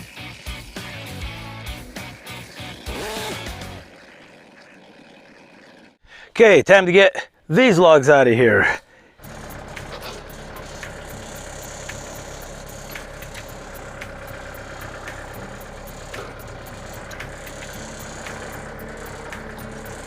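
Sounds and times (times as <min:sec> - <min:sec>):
tractor diesel engine running: 0:00.0 - 0:06.6, 0:08.5 - 0:20.0.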